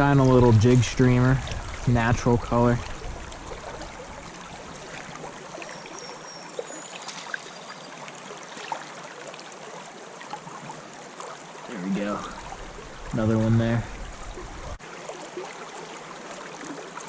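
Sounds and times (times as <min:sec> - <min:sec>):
creek water running: 0:00.0 - 0:17.0.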